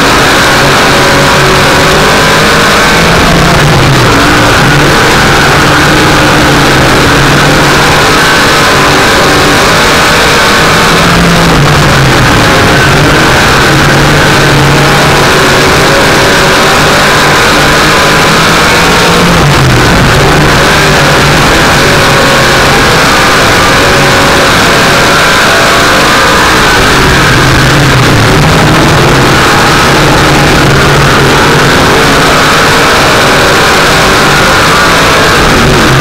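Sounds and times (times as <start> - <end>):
vehicle engine running hard: 0.0 - 36.0.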